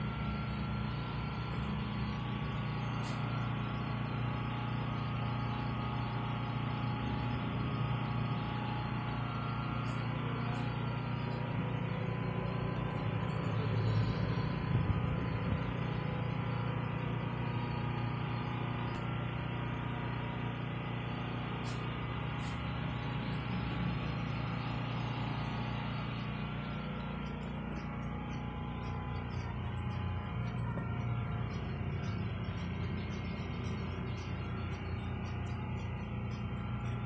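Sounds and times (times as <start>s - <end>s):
refrigerator hum: 0.0s - 37.0s.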